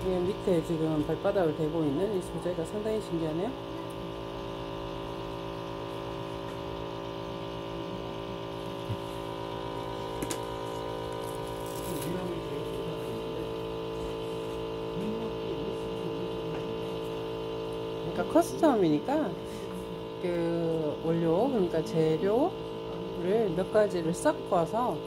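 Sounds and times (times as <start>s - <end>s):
machine electric hum: 0.0s - 25.0s.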